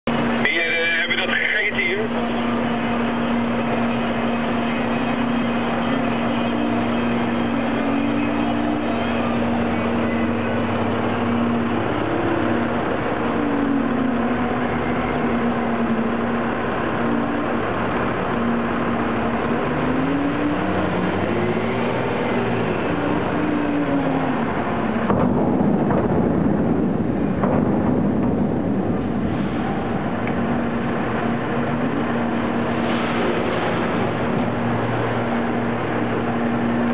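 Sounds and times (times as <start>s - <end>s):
diesel truck engine droning: 0.0s - 36.9s.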